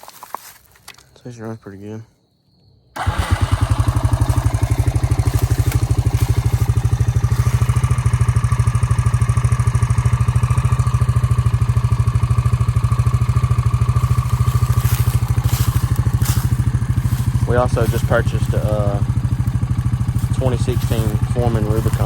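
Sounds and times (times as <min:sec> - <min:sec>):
atv engine idling: 0:03.0 - 0:22.0.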